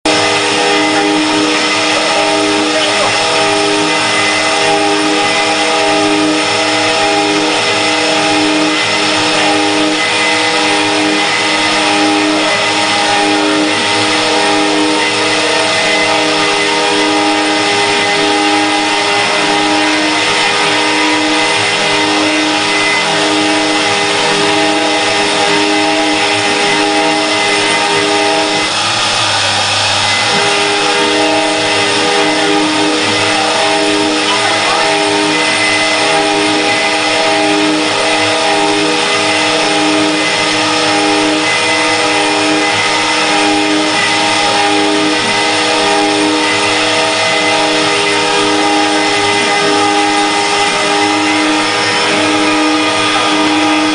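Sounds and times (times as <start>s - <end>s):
rasping wood cutting: 0.0s - 53.9s
spindle motor tones: 0.0s - 53.9s.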